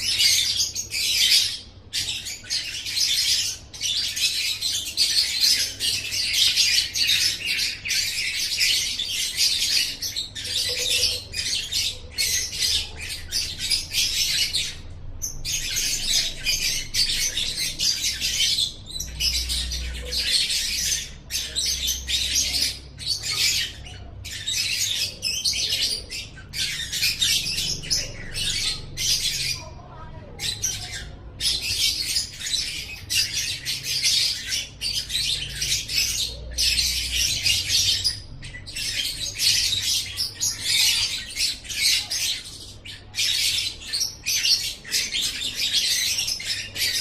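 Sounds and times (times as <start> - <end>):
lovebird chattering song: 0.0 - 47.0.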